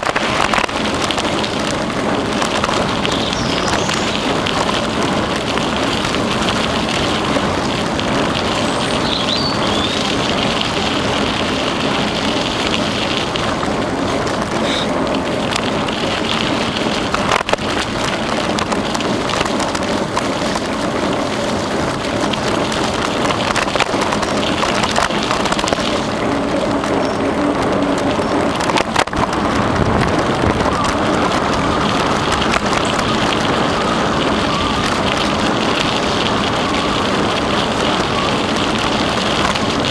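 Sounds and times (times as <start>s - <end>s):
bicycle tyres rolling on trail: 0.0s - 39.9s
bike rattling: 0.0s - 39.9s.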